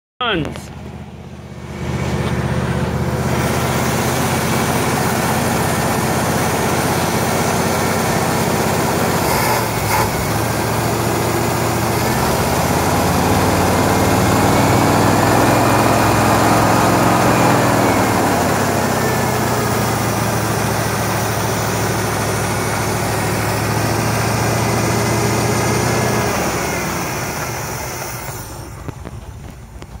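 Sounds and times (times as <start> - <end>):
car engine running: 0.2 - 30.0.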